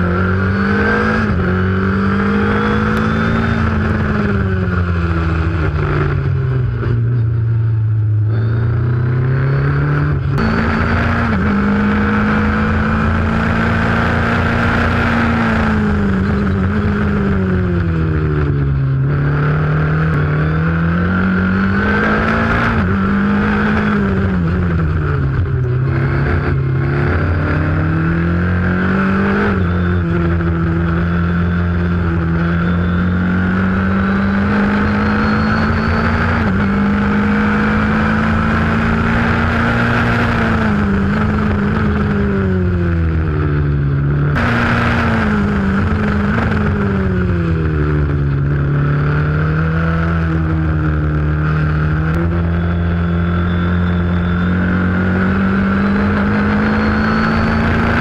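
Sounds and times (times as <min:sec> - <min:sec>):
race car engine revving: 0:00.0 - 0:07.0, 0:08.2 - 0:58.0
wind and road noise: 0:00.0 - 0:58.0.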